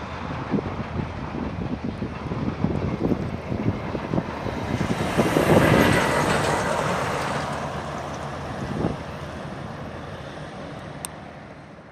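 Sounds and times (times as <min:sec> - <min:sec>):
passenger train rumbling past: 0:00.0 - 0:11.9.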